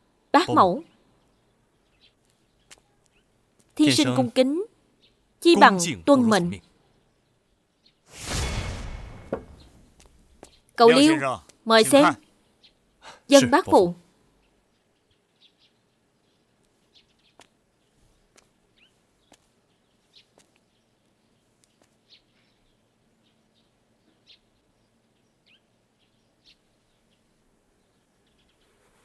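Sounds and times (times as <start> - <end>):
faint bird chirps: 0.0 - 8.1, 9.5 - 29.0.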